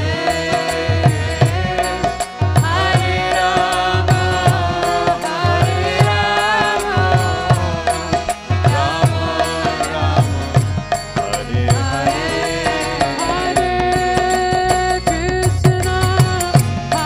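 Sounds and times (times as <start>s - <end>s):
hand drum beat: 0.0s - 17.0s
harmonium chords: 0.0s - 17.0s.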